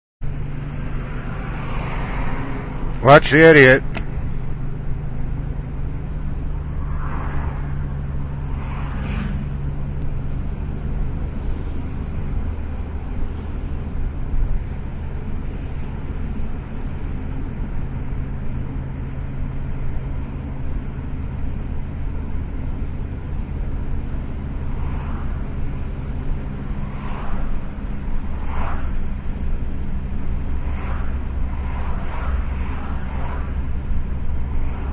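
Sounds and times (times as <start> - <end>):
car engine and road noise: 0.2 - 34.9
constant low hum: 0.2 - 34.9.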